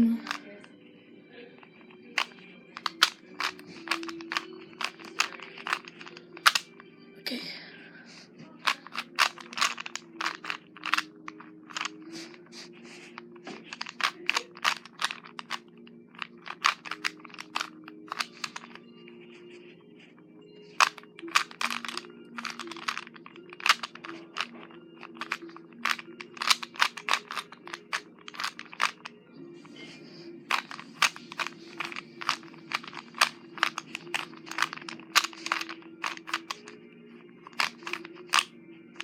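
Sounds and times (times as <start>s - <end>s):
puzzle cube plastic clicks: 0.2s - 0.5s, 1.7s - 6.8s, 8.6s - 19.5s, 20.7s - 29.1s, 30.5s - 36.8s, 37.4s - 39.0s.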